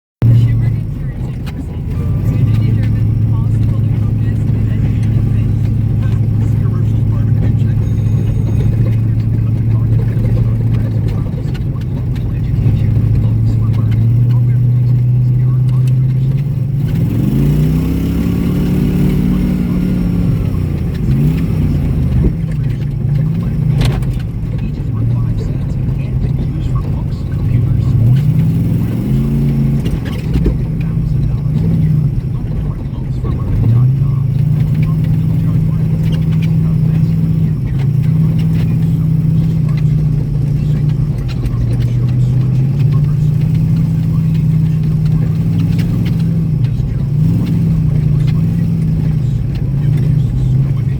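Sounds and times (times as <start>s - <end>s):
light ticks and rattles: 0.2s - 50.9s
off-road vehicle engine: 0.2s - 50.9s.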